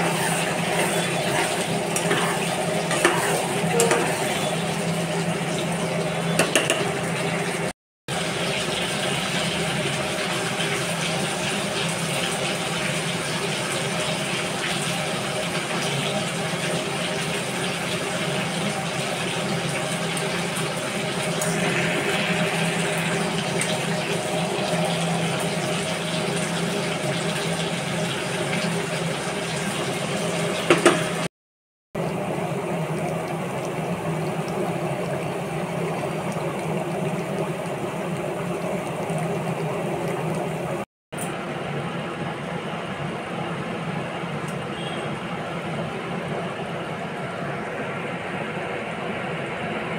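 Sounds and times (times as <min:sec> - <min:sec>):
curry bubbling in a pan: 0:00.0 - 0:31.3, 0:32.0 - 0:40.9
mechanical hum: 0:00.0 - 0:31.3, 0:32.0 - 0:49.9.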